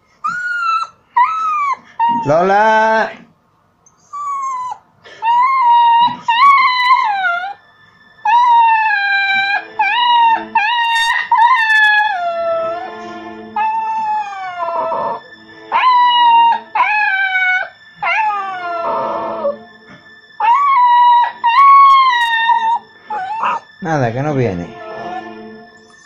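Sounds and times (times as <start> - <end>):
dog howling: 0.2 - 3.1, 4.1 - 7.6, 8.2 - 23.9, 24.5 - 26.0.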